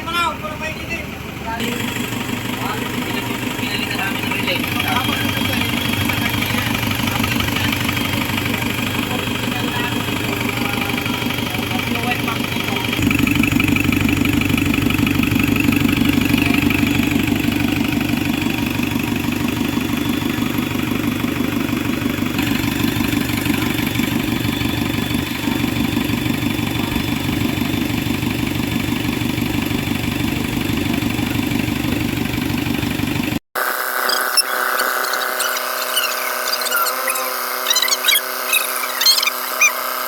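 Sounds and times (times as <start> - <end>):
diesel engine idling: 0.0 - 33.4.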